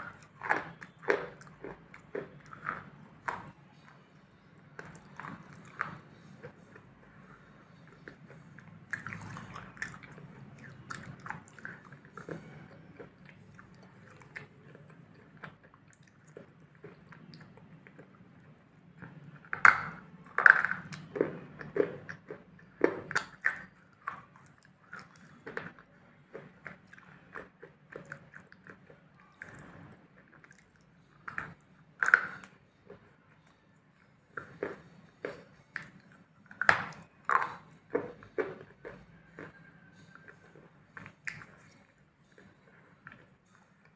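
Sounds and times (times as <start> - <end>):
crunchy biting and chewing: 0.0 - 43.9.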